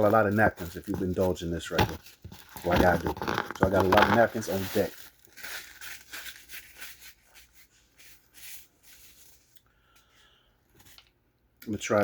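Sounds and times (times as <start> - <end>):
paper and packaging crinkling: 0.0 - 9.6.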